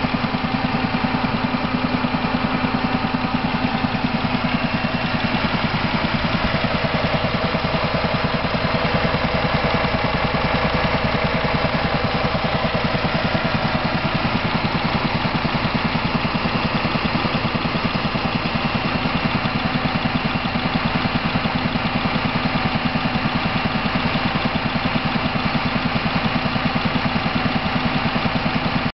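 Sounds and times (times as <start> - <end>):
car engine idling with fast pulsing: 0.0 - 28.9.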